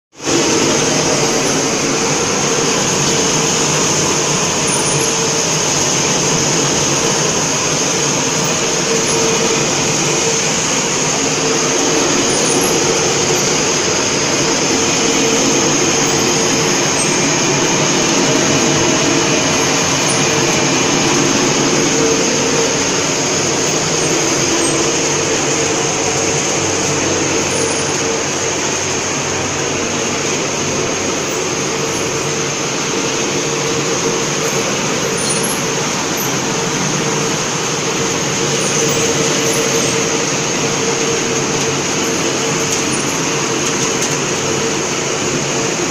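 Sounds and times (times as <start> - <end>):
machine drone with high hiss: 0.2 - 45.9.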